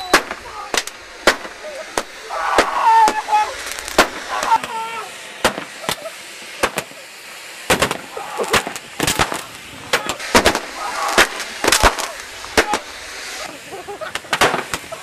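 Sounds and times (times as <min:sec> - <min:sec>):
firecracker bangs: 0:00.0 - 0:04.8, 0:05.4 - 0:07.0, 0:07.6 - 0:15.0
spark fountains hissing: 0:00.0 - 0:15.0.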